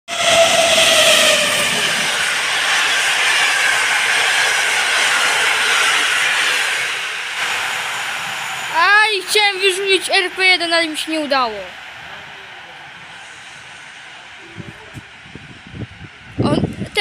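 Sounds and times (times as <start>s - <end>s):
train coaches rushing past: 0.1s - 17.0s.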